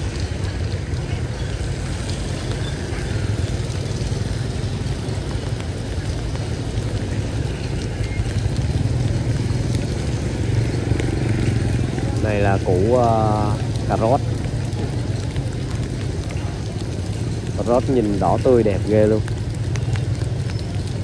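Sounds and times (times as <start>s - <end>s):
motorbike traffic rumble: 0.0s - 21.0s
tyres hissing on wet road: 0.0s - 21.0s.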